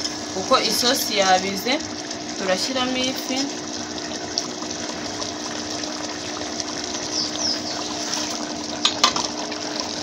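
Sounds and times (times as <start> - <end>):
gas burner hum: 0.0 - 10.0
sauce bubbling in a pot: 0.0 - 10.0.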